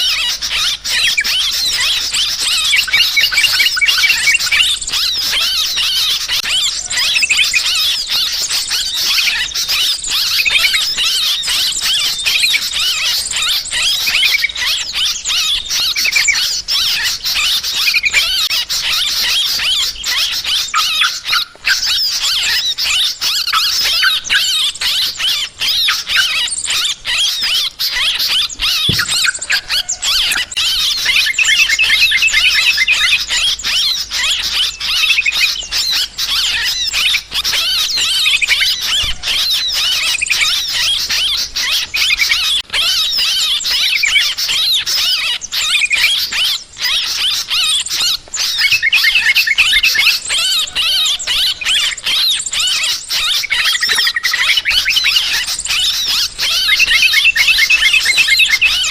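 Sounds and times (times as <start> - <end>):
bulbuls chattering: 0.0 - 58.9
small birds calling: 0.0 - 58.9.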